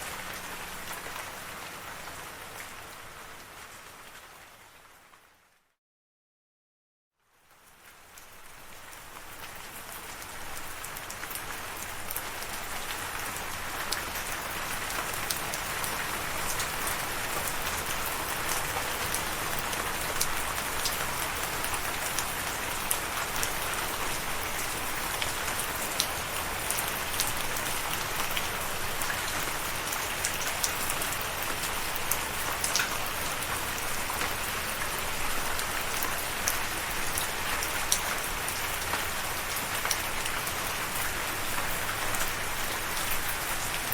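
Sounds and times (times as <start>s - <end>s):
rain falling on a surface: 0.0s - 5.7s, 7.2s - 43.9s.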